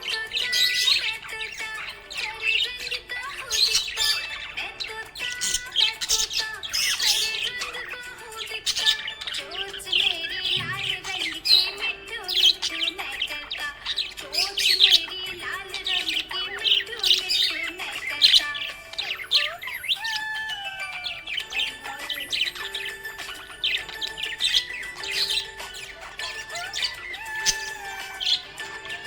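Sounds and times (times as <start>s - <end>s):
background music: 0.0s - 29.0s
budgerigars chirping: 0.0s - 29.0s.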